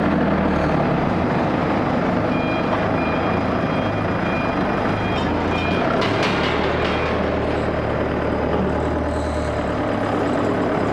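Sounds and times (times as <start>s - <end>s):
industrial machinery drone: 0.0s - 10.9s.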